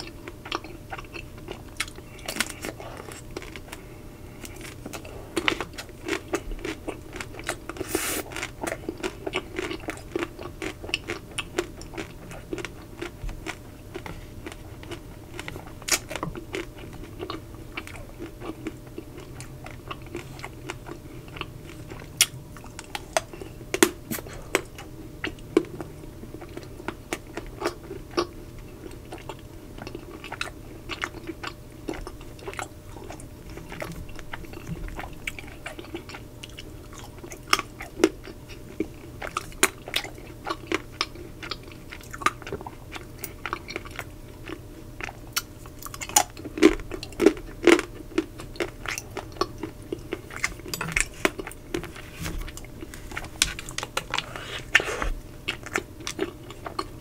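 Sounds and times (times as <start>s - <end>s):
chewing and crunching chocolate shell: 0.0s - 57.0s.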